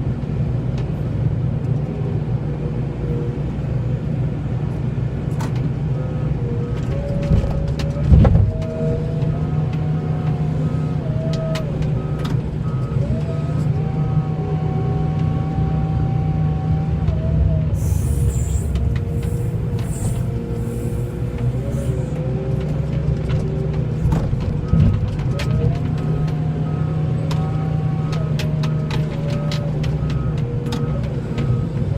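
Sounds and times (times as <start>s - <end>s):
snowplow engine running: 0.0s - 31.9s.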